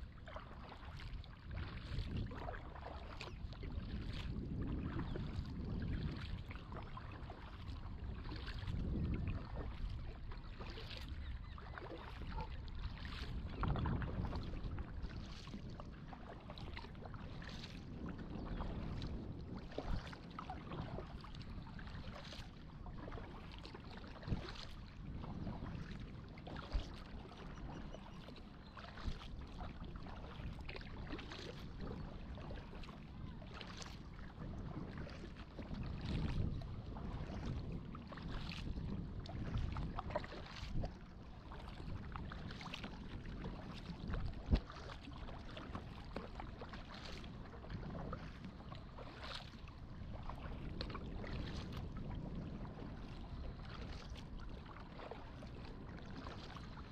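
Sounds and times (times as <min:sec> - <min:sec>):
kayak paddle splashing in water: 0:00.1 - 0:56.8.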